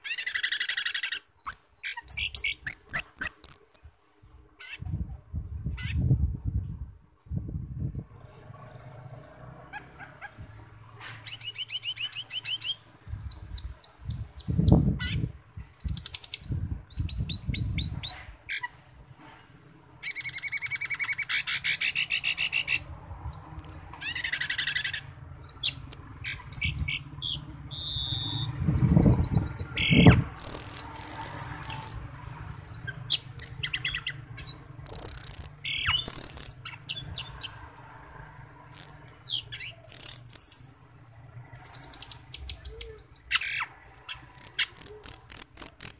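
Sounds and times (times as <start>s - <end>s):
starling singing: 0.0s - 6.2s, 8.1s - 45.9s.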